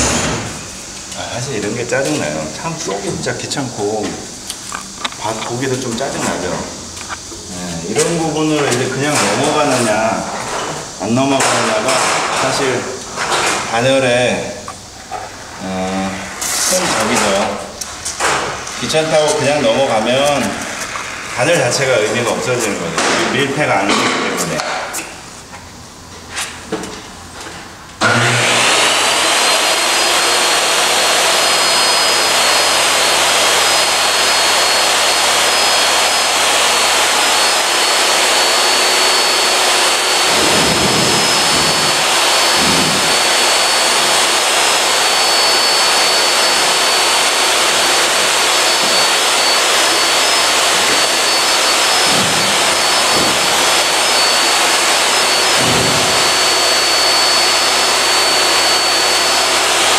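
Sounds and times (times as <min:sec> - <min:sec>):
electric fan whining: 0:00.0 - 0:59.9.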